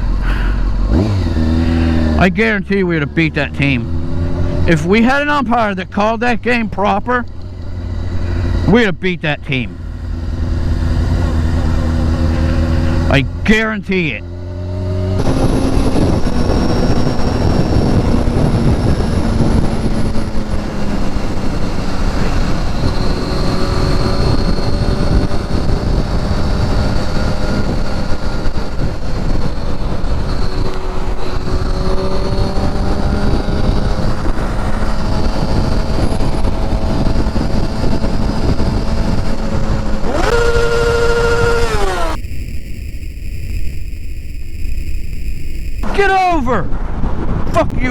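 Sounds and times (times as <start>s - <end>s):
engine drone: 0.0s - 47.4s
wind and road noise: 0.0s - 47.9s.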